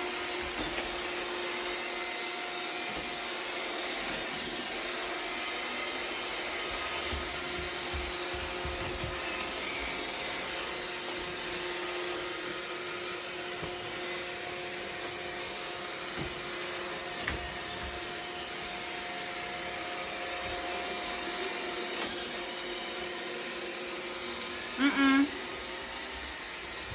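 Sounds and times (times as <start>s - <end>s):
robot vacuum running: 0.1s - 26.9s.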